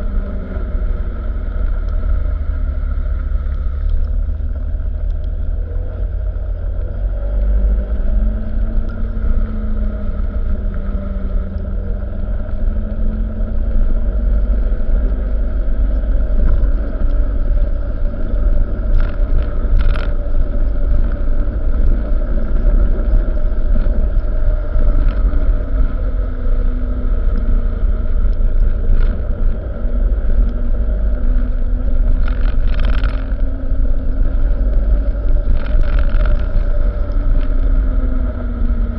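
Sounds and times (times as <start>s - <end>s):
truck engine rumbling: 0.0s - 38.9s.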